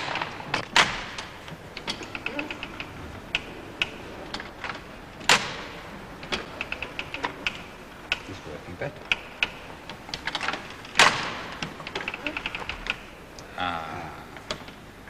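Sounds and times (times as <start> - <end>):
loud sharp clacks: 0.0 - 13.2.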